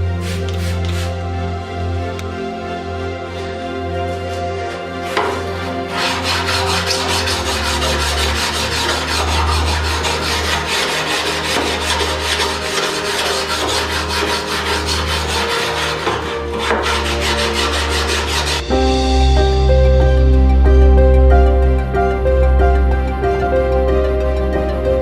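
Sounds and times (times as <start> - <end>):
soft background music: 0.0 - 25.0
abrasive rasping strokes: 4.1 - 25.0.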